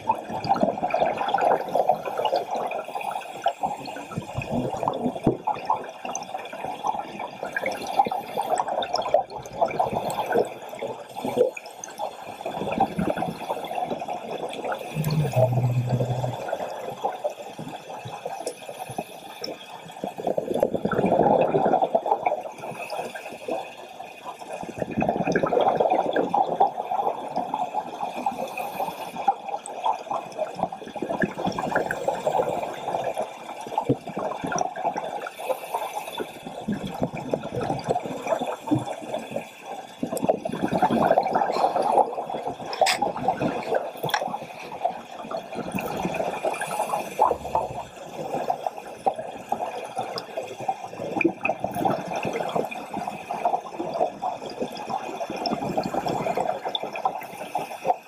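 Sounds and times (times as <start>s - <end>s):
underwater diver bubbles gurgling: 0.0s - 58.0s.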